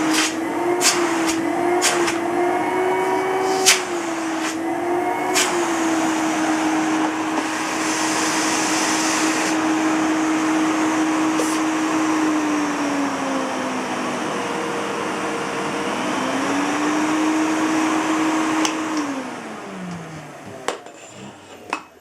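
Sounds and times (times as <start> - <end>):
vacuum cleaner motor whining: 0.0 - 22.0.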